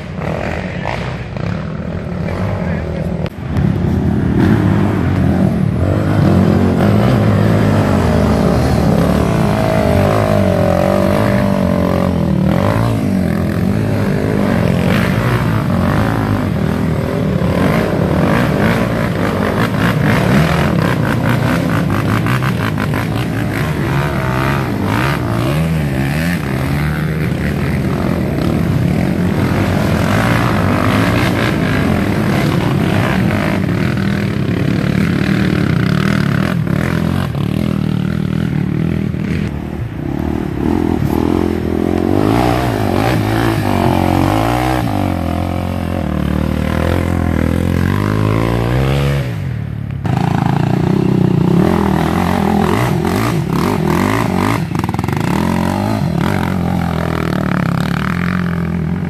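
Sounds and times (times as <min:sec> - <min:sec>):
quad engines revving: 0:00.0 - 0:59.0.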